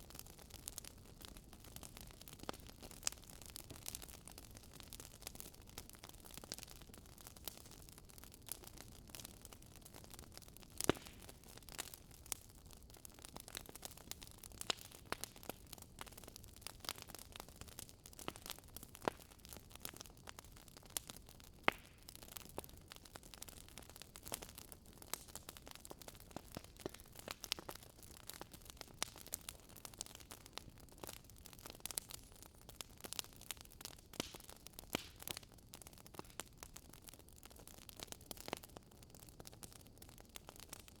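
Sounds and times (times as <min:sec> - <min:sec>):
wood crackling and popping: 0:00.0 - 0:41.0.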